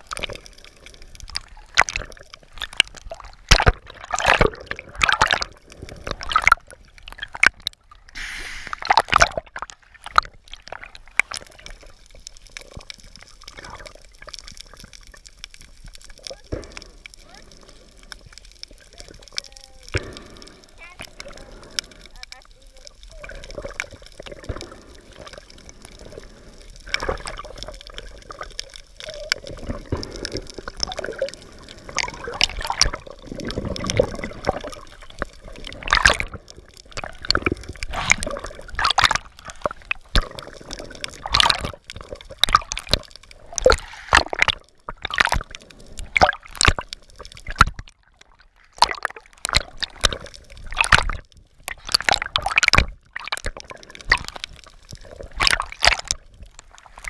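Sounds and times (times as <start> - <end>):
sharp clicks and pops: 0.0 - 57.0
underwater water gurgling: 0.0 - 57.0.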